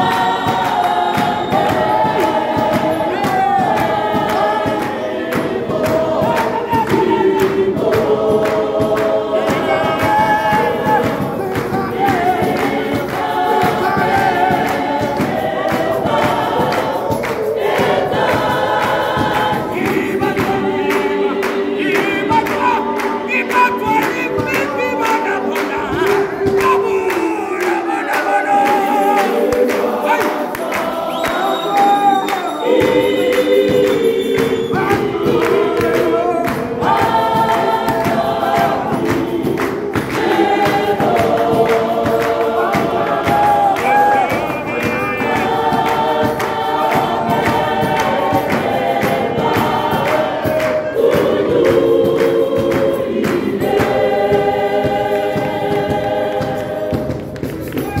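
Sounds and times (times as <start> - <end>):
gospel choir singing: 0.0 - 58.0
hand clapping: 0.0 - 58.0.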